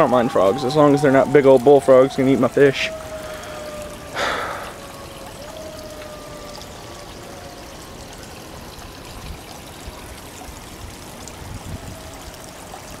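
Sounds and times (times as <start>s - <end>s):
water trickling into pond: 0.0s - 13.0s.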